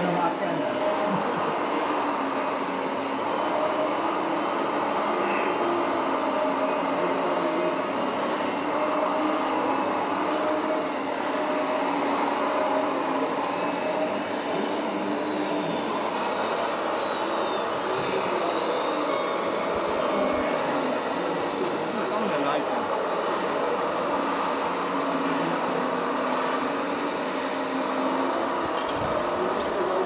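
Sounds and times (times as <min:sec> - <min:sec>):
electric motors whining: 0:00.0 - 0:30.0.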